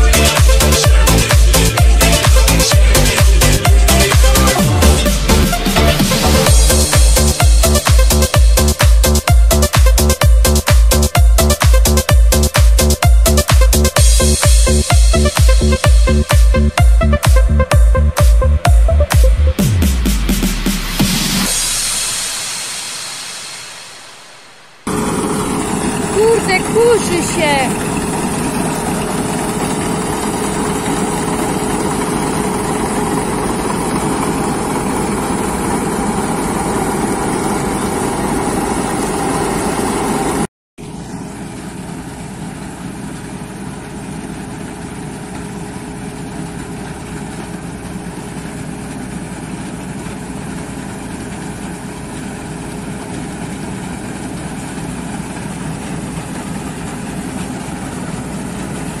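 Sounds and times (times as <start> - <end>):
combine harvester running: 0.0 - 24.1, 24.7 - 59.0.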